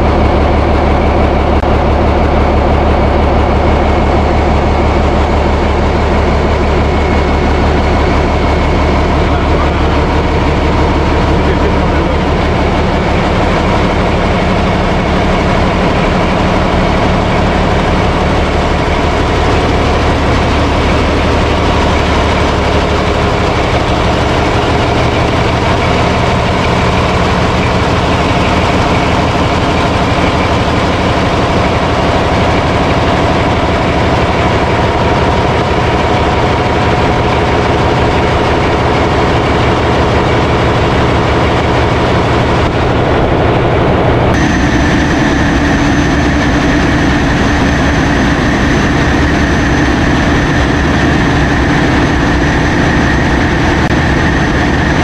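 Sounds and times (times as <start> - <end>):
diesel engine machinery drone: 0.0 - 55.0
steady high whine: 0.0 - 55.0.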